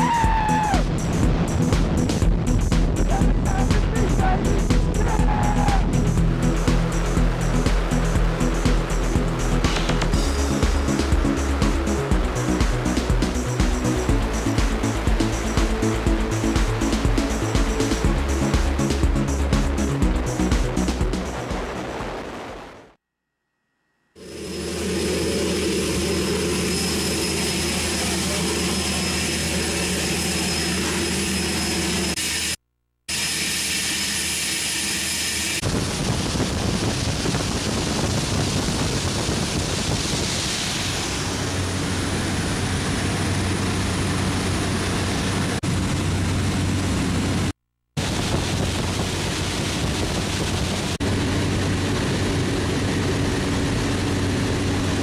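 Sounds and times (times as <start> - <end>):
propeller aircraft engine: 0.0 - 23.0, 24.1 - 55.0.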